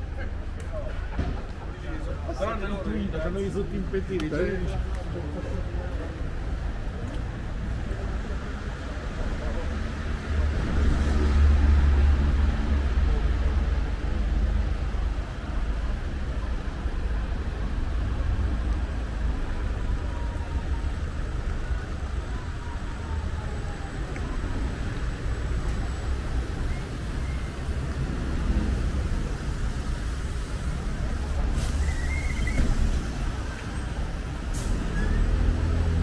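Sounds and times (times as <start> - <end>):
traffic passing on wet street: 0.0 - 36.0.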